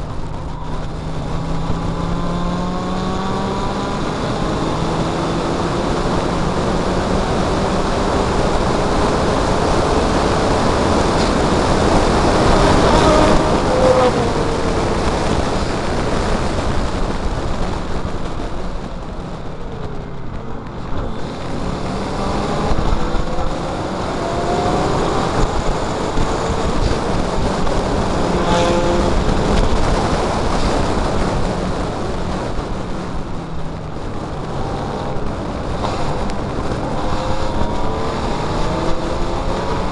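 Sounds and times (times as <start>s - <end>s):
race car engine revving: 0.0s - 39.9s
wind rush on microphone: 0.0s - 39.9s.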